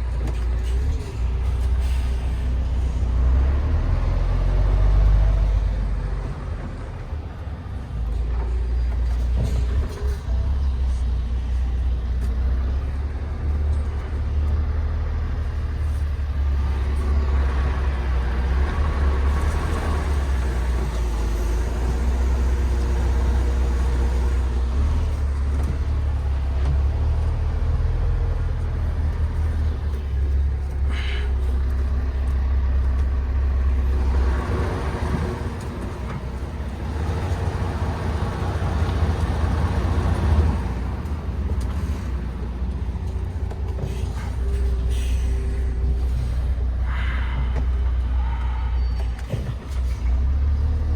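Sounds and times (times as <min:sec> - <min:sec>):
truck diesel engine droning: 0:00.0 - 0:50.9.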